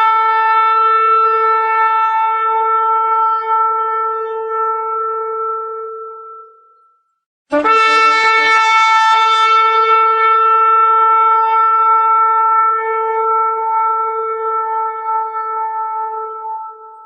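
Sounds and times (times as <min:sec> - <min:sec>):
long horn blast: 0:00.0 - 0:06.6, 0:07.5 - 0:17.0.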